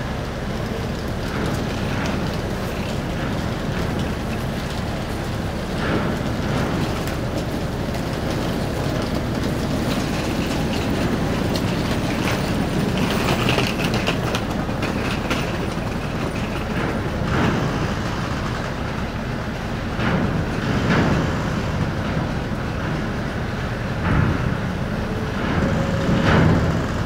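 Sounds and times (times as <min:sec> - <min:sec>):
ship machinery rumbling: 0:00.0 - 0:27.0.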